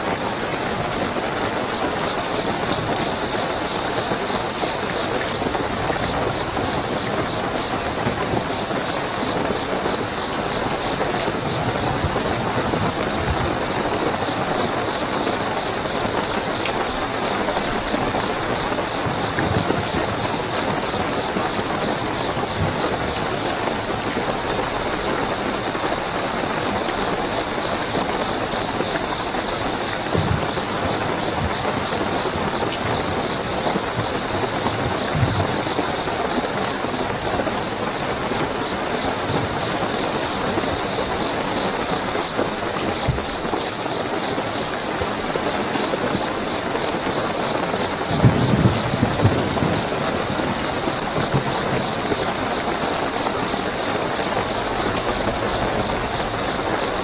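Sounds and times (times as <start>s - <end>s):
heavy rainfall: 0.0s - 57.0s
high-pitched cricket trill: 0.0s - 57.0s.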